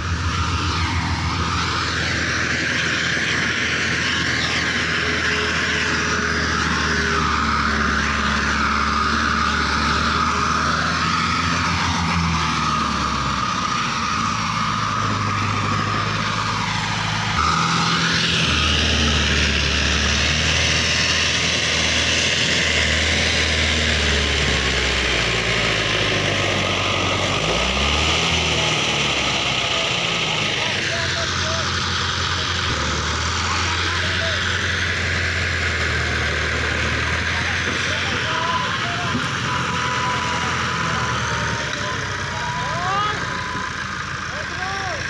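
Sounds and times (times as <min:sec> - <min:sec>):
diesel tractor engine running hard: 0:00.0 - 0:45.0.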